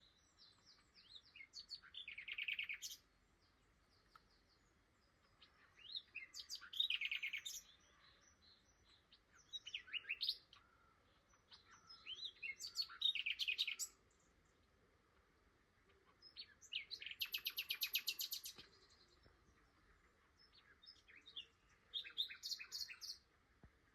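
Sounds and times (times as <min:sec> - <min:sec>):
nightingale singing: 0:00.0 - 0:14.8, 0:15.8 - 0:23.3.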